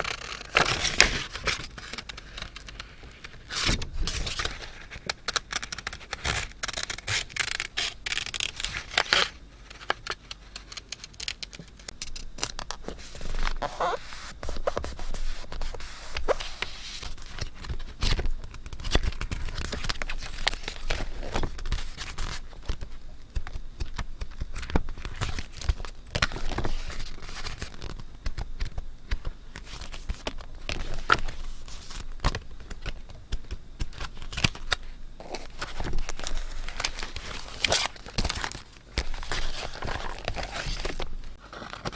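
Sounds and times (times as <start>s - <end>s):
paper rustling and scraping: 0.0s - 11.6s, 12.8s - 22.9s, 24.5s - 33.1s, 33.9s - 41.9s.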